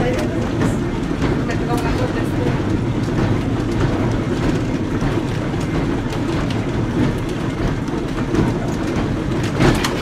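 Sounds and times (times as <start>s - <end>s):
streetcar wheels rumbling on rails: 0.0s - 10.0s
wooden body clicks and rattles: 0.0s - 10.0s.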